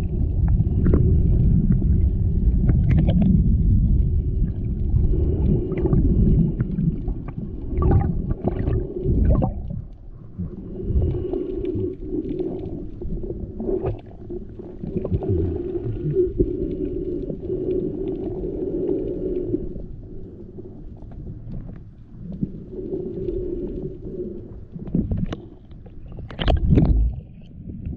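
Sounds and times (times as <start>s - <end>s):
low underwater drone: 0.0s - 27.9s
underwater sloshing and bubbling: 0.0s - 27.9s.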